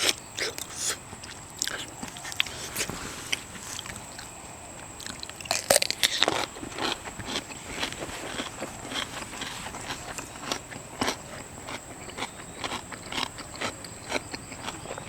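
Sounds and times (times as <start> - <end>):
chewing seafood with wet crunches: 0.0 - 15.0.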